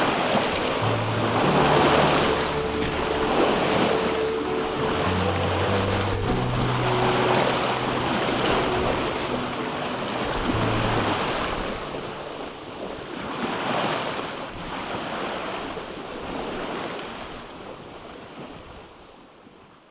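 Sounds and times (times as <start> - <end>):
wind on microphone: 0.0 - 18.9
sea water rushing past hull: 0.0 - 19.7.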